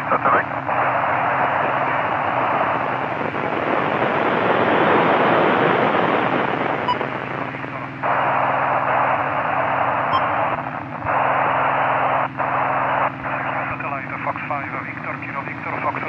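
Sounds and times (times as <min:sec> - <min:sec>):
radio receiver hiss: 0:00.0 - 0:16.0.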